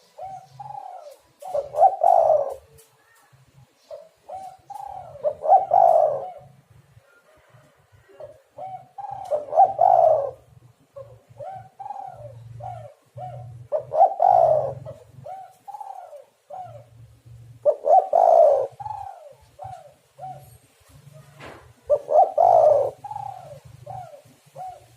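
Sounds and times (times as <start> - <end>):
doves cooing: 0.0 - 2.9, 3.8 - 24.9.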